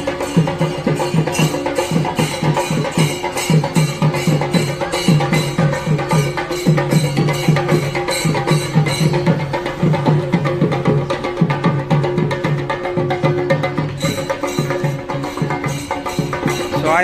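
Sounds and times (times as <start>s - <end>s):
drums and cymbals fast rhythm: 0.0s - 17.0s.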